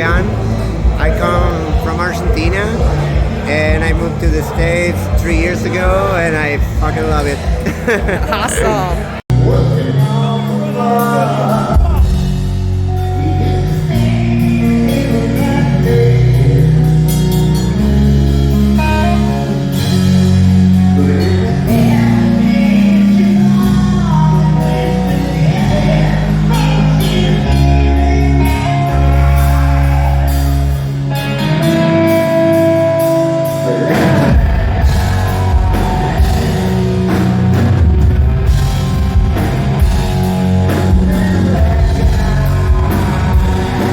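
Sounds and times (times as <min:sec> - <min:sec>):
rock music with singing: 0:00.0 - 0:43.9.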